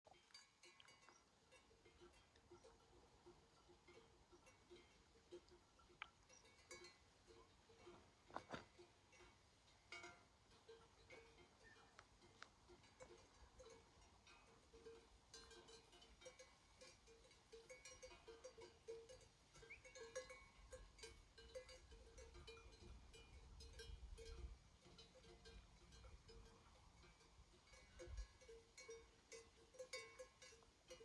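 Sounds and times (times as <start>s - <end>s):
sheep bells clinking: 0.1s - 31.0s.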